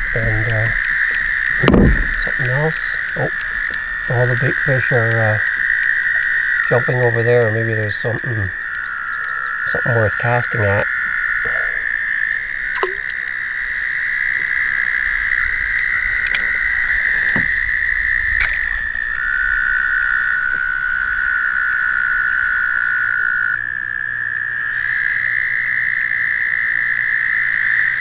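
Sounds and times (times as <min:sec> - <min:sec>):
toads trilling: 0:00.0 - 0:28.0.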